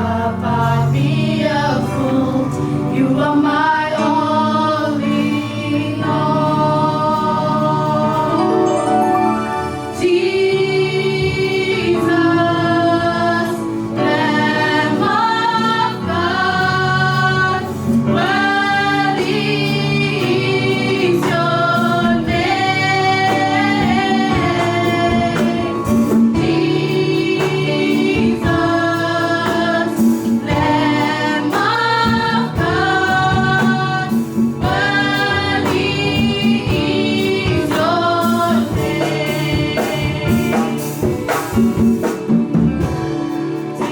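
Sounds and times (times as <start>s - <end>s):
church choir singing gospel: 0.0s - 43.9s
instrumental backing with bass line: 0.0s - 43.9s.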